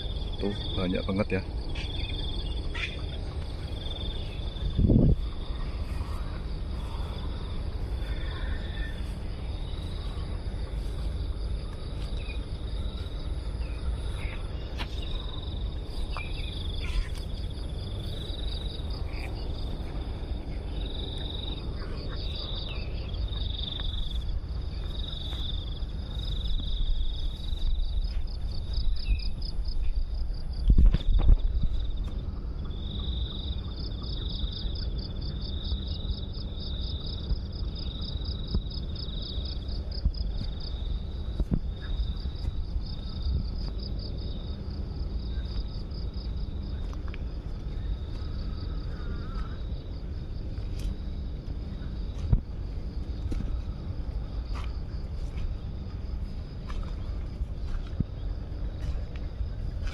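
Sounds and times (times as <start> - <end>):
insects chirping: 0.0 - 59.9
low microphone rumble: 1.4 - 59.9.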